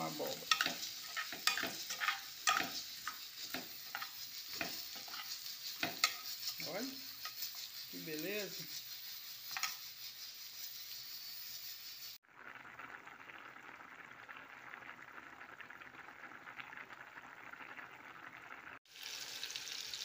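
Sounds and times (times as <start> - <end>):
pot boiling with bubbling: 0.0 - 20.0
vegetable frying in a pan: 0.0 - 20.0.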